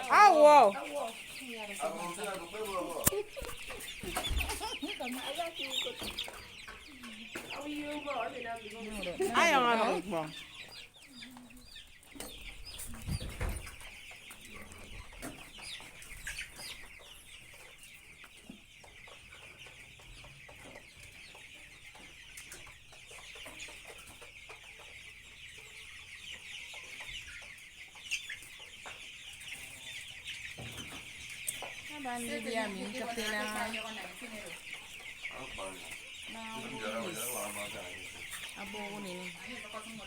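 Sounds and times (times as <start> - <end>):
chicks peeping: 0.0 - 40.0.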